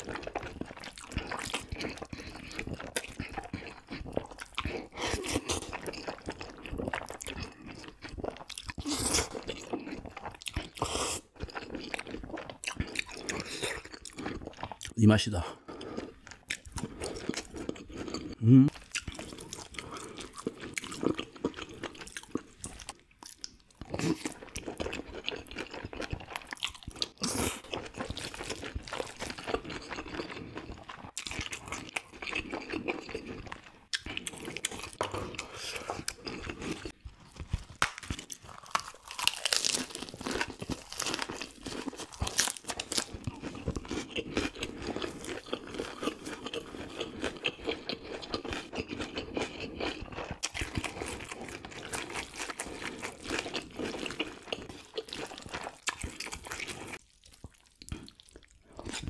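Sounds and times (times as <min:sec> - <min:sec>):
person chewing noodles: 0:00.0 - 0:59.0.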